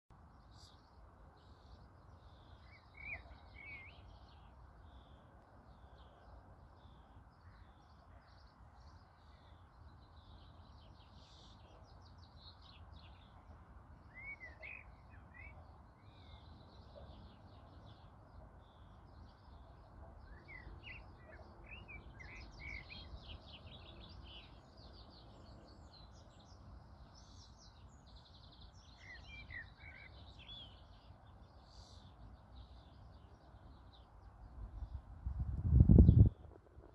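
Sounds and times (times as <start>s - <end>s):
faint birdsong twittering and trills: 0.1s - 36.9s
lower chirping calls: 0.5s - 35.0s.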